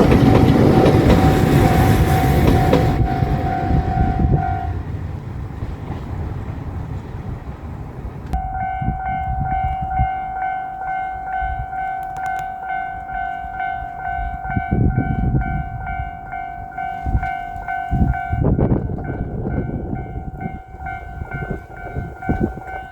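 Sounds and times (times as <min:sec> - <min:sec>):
crossing warning bell dinging: 0:00.0 - 0:05.2, 0:08.2 - 0:22.9
diesel train rumble: 0:00.0 - 0:22.9.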